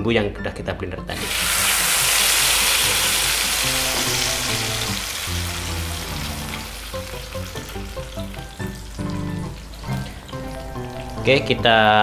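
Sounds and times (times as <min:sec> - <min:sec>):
spice paste sizzling in oil: 0:01.2 - 0:11.3.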